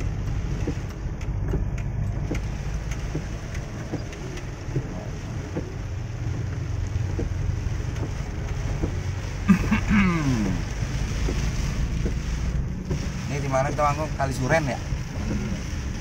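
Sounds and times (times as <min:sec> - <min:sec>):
faint taps of raindrops: 0:00.0 - 0:16.0
rain falling: 0:00.0 - 0:16.0
vehicle engine and road rumble: 0:00.0 - 0:16.0.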